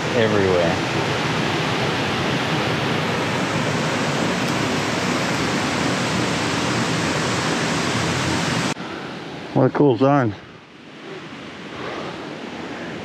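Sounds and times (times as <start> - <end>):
creek water rushing over rapids: 0.0 - 13.0.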